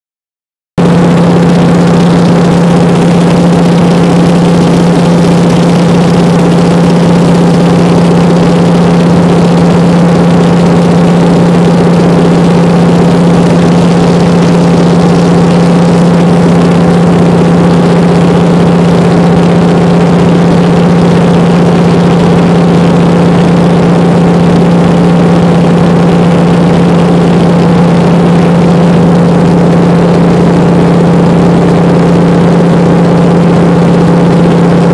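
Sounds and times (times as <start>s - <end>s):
low hum: 0.8s - 34.9s
plane engine and propeller droning: 0.8s - 34.9s.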